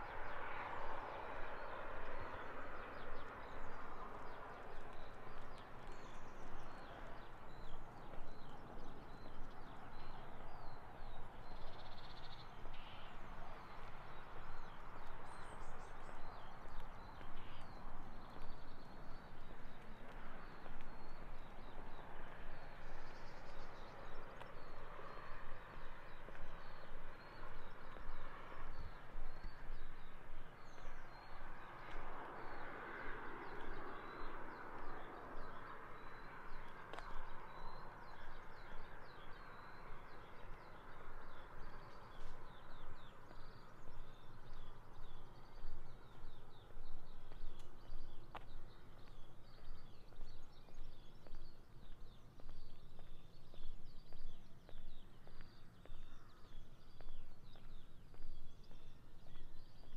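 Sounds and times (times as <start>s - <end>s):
footsteps on a path: 0.0s - 59.9s
small birds chirping: 0.0s - 59.9s.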